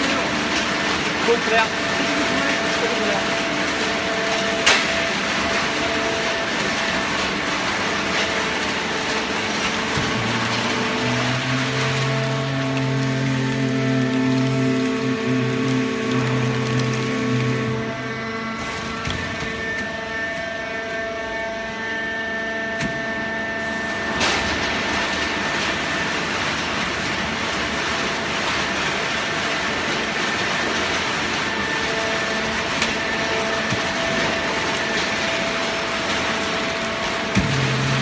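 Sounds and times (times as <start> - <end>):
machine whine: 0.0 - 38.0.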